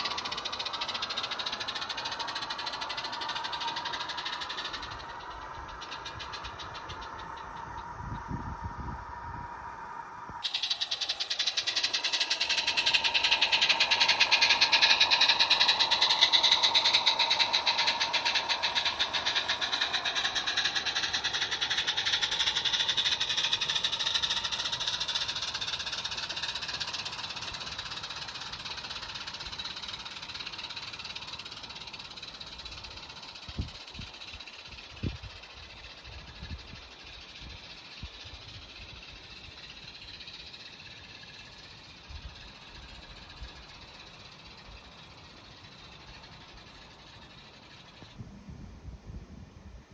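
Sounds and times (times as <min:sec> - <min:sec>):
model train rattling past: 0:00.0 - 0:48.2.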